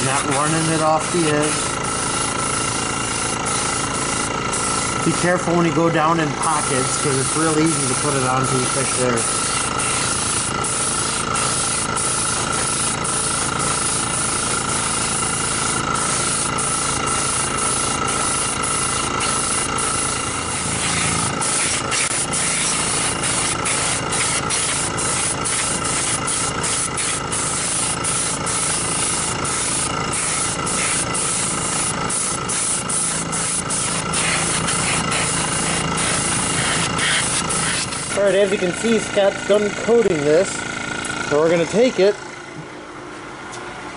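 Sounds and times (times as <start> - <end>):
airbrush spraying: 0.0 - 40.3
steady low hum: 0.0 - 43.9.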